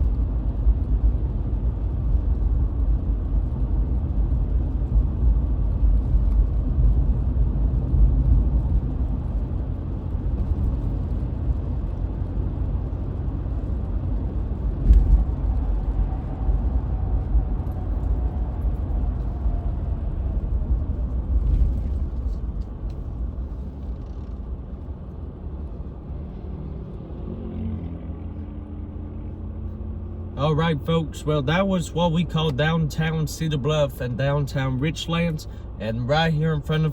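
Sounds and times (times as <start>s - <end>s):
road and engine rumble: 0.0s - 36.9s.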